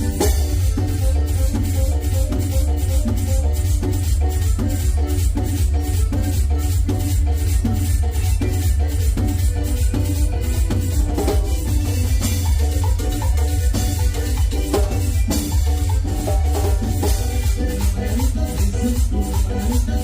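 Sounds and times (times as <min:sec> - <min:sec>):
heavy bass: 0:00.0 - 0:20.0
live band playing dance music: 0:00.0 - 0:20.0
percussion beat: 0:00.0 - 0:20.0.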